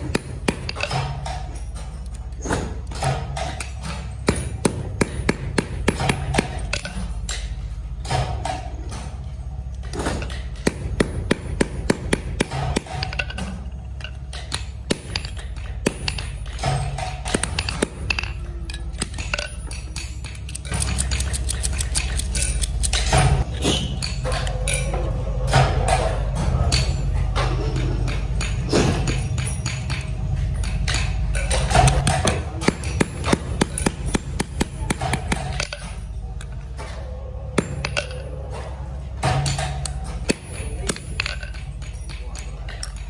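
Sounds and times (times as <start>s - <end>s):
hammer striking metal: 0.0s - 43.0s.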